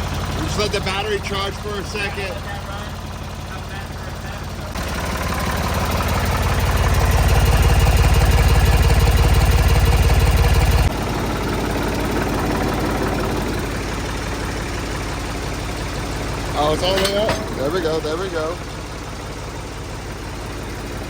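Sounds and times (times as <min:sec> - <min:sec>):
diesel tractor engine idling: 0:00.0 - 0:21.0.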